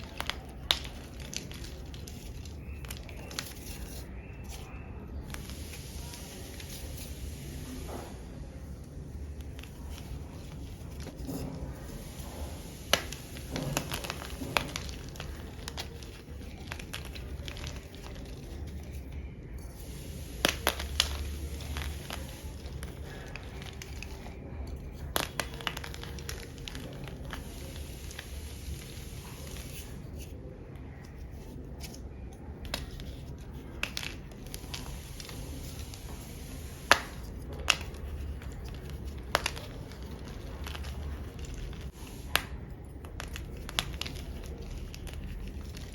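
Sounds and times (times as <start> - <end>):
chalk chunks crunching: 0.0 - 8.1, 9.1 - 45.9.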